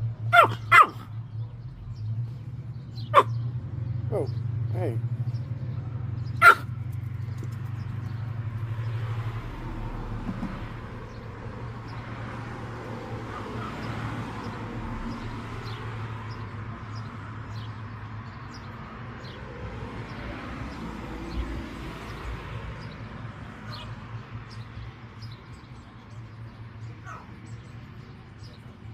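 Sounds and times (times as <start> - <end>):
small birds chirping: 0.2 - 9.1, 13.2 - 28.9.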